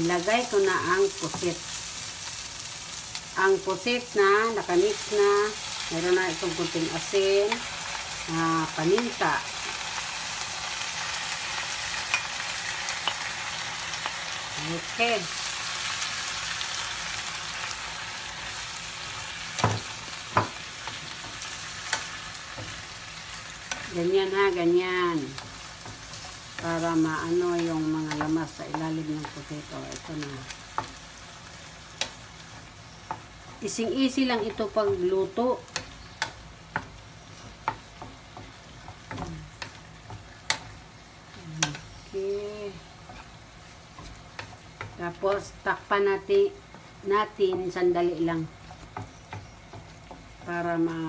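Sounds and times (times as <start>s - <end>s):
food sizzling in a frying pan: 0.0s - 51.0s.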